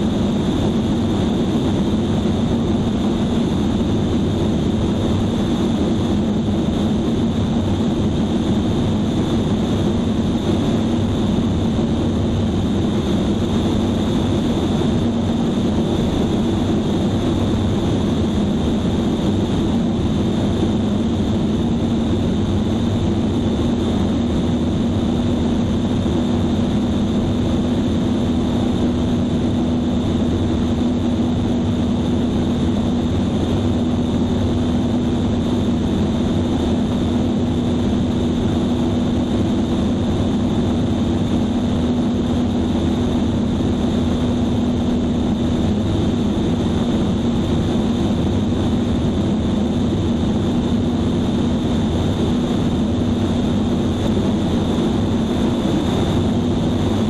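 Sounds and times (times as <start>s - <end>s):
airplane engine and propeller droning: 0.0s - 57.0s
wind noise: 0.0s - 57.0s.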